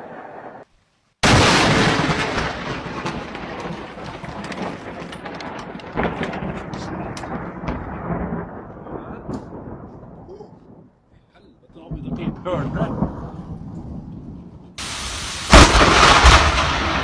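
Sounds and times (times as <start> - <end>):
loud thunderclap: 1.2 - 11.0, 11.8 - 17.0
rolling thunder with crackles: 1.2 - 17.0.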